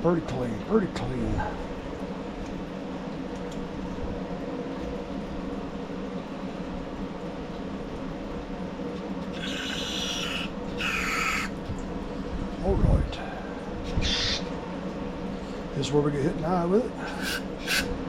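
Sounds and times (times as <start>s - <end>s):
workshop low hum: 0.0s - 9.6s, 10.4s - 18.0s.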